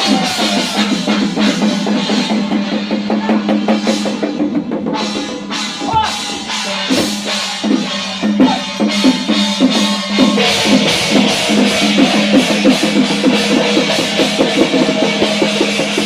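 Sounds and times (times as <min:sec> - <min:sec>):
drum strokes: 0:00.0 - 0:16.0.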